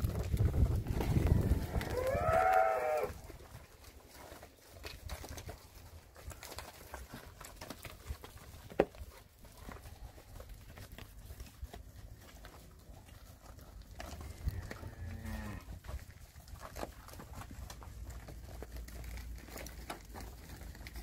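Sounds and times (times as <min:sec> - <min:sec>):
hoof steps and knocks: 0:00.0 - 0:21.0.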